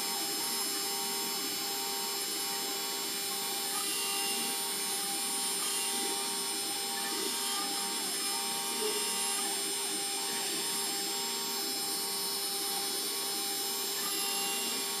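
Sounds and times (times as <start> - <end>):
router spindle whining: 0.0 - 15.0
stepper motor tones: 0.0 - 15.0.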